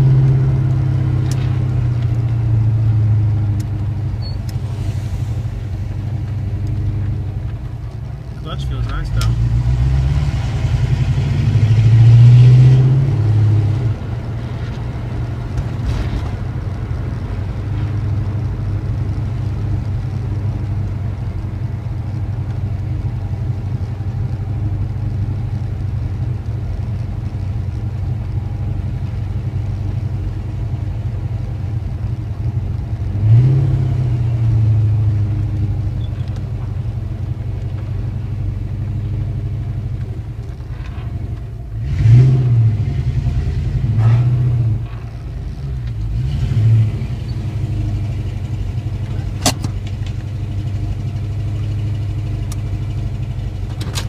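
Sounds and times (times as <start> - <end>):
car engine accelerating and rumbling: 0.0 - 54.0.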